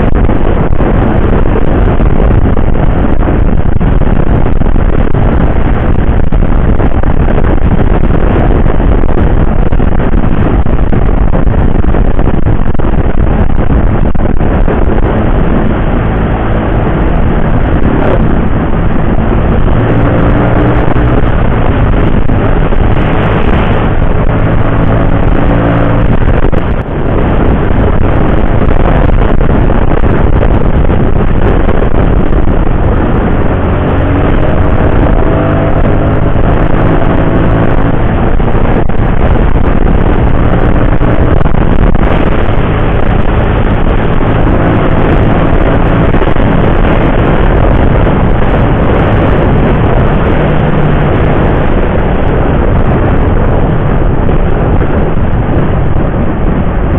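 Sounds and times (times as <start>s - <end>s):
motorcycle engine accelerating: 0.0s - 56.9s
wind rush on microphone: 0.0s - 56.9s.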